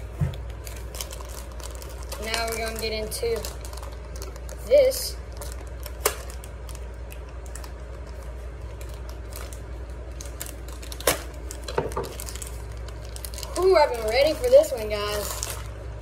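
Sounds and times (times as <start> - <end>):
steady low hum: 0.0 - 16.0
package crinkling and clicking: 0.2 - 15.8.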